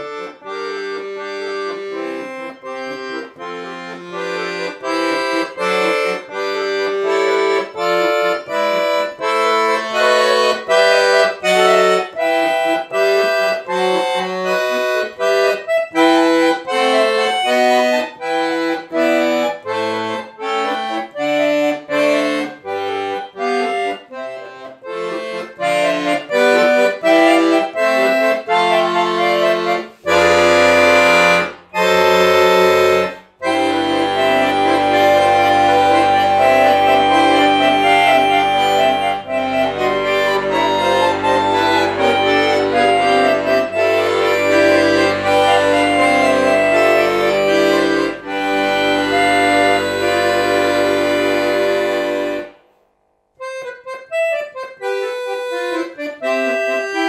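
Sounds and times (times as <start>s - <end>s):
piano accordion playing: 0.0s - 57.0s.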